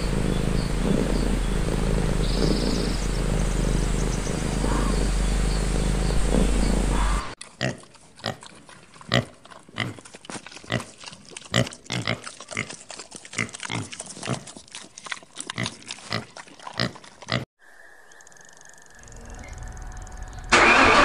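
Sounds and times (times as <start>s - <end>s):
young wild boars grunting: 0.0s - 17.5s.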